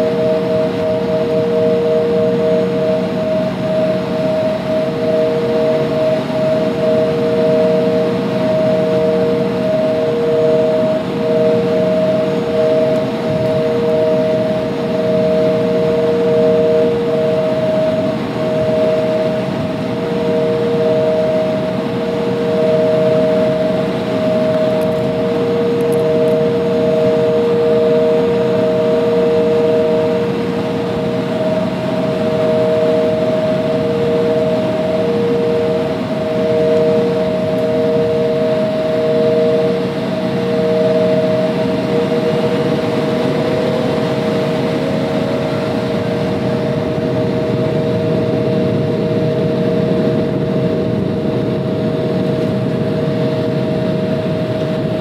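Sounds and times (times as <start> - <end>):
jet engines whining in cabin: 0.0 - 55.0.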